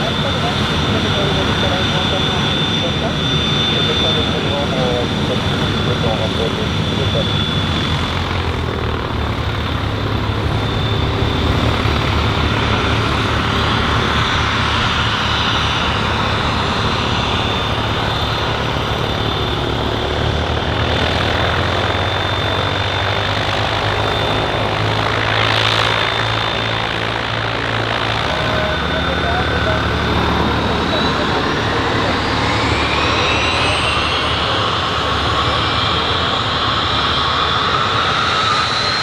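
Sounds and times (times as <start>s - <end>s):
jet engines running: 0.0s - 39.0s.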